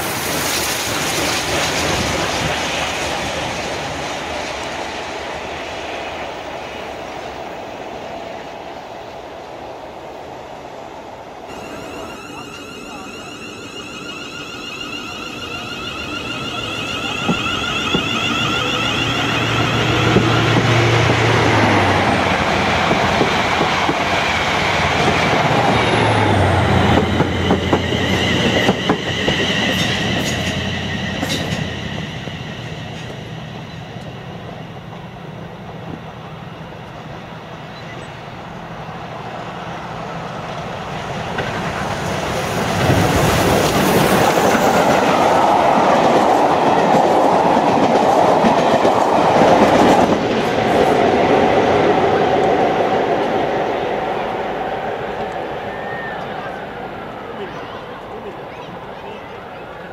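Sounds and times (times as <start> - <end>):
electric train whine: 0.0 - 59.9
train coaches rumbling past: 0.0 - 59.9.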